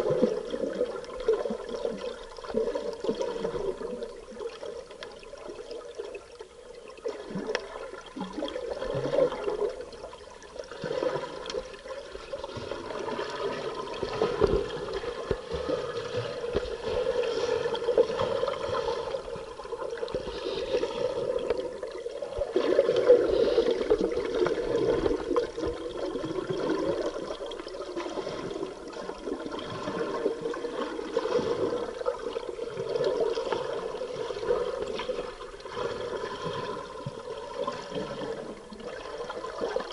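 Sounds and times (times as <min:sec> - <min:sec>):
muffled underwater bubbling: 0:00.0 - 0:39.9.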